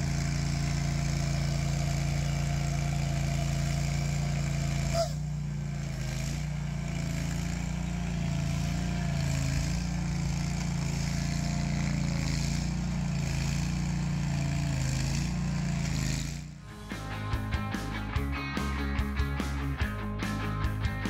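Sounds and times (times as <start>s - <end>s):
stump grinder engine running: 0.0s - 21.0s.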